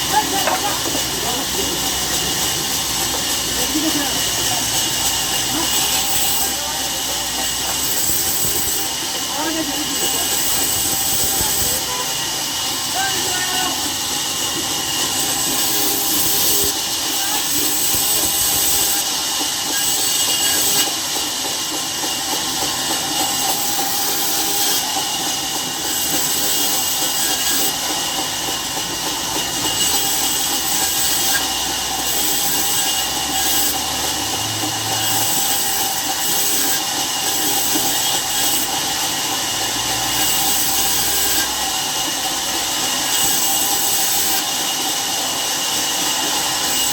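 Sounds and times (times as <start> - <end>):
machine noise with hiss: 0.0 - 46.9.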